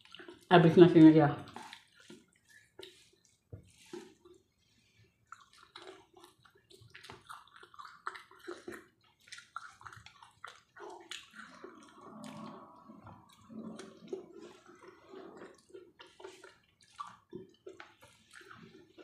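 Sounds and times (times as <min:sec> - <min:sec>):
soft chewing with mouth clicks: 0:00.0 - 0:00.5, 0:01.4 - 0:19.0.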